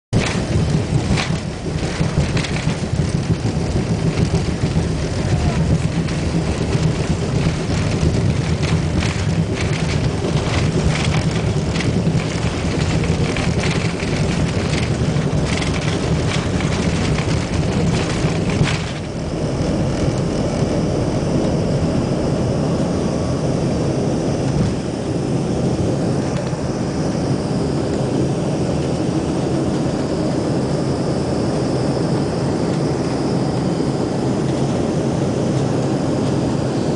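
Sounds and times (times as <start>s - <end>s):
aircraft engine and airflow noise: 0.1s - 36.9s.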